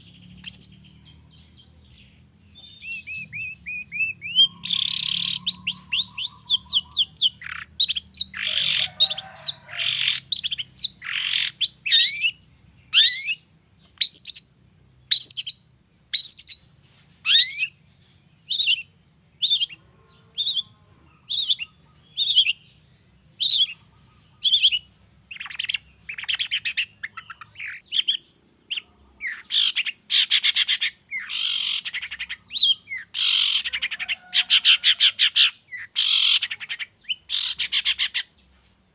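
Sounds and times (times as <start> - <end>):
bird harsh chattering calls: 0.0 - 17.8, 18.4 - 38.6.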